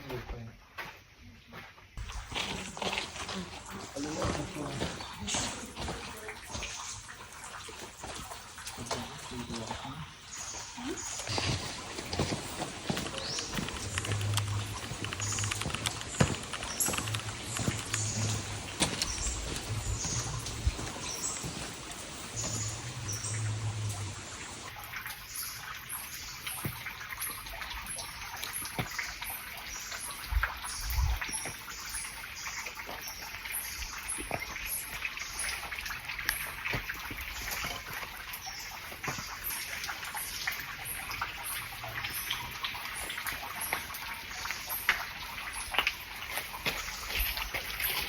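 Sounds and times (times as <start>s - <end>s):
stream water over rocks: 2.0s - 48.0s.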